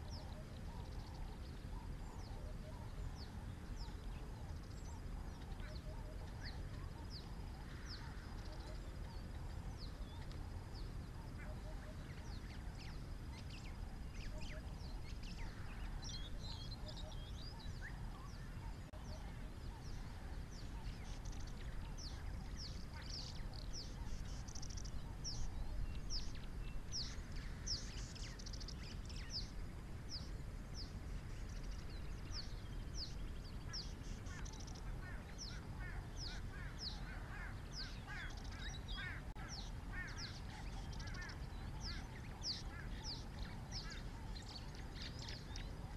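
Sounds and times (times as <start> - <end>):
birds chattering: 0.0 - 45.9
birds chirping: 0.0 - 45.9
low steady rumble: 0.0 - 45.9.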